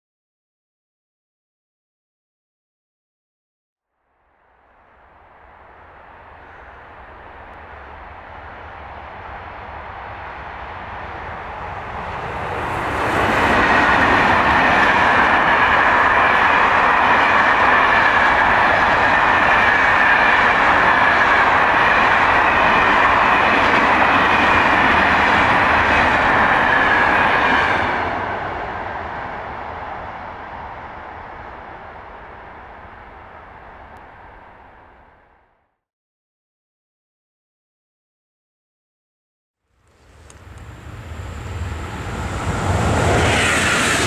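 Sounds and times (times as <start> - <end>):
freight train rushing past: 4.2 - 35.6, 39.8 - 44.0.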